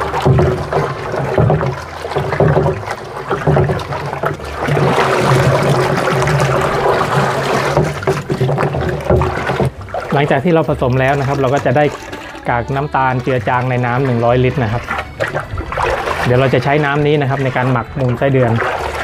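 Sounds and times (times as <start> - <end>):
water sloshing in a plastic tank: 0.0 - 19.0.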